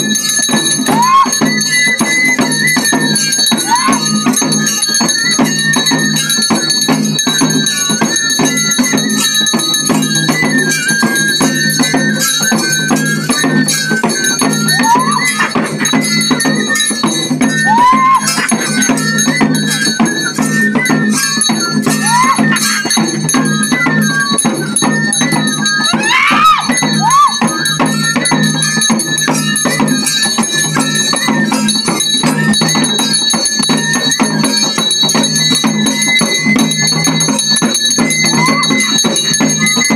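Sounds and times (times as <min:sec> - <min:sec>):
drums beaten in fast rhythm: 0:00.0 - 0:39.9
jingling cymbals or bells: 0:00.0 - 0:39.9
wind instrument high melody: 0:00.0 - 0:39.9.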